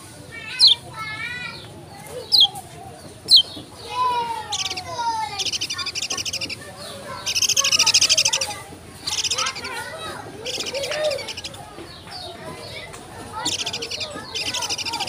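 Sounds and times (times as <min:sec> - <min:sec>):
small bird singing: 0:00.4 - 0:15.0.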